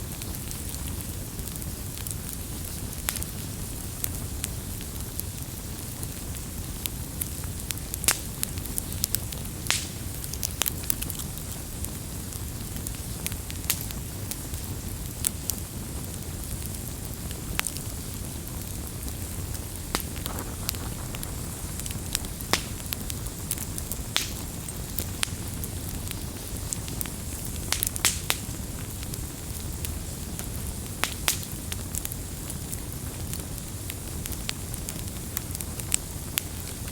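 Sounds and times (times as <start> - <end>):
campfire crackling and popping: 0.0 - 36.9.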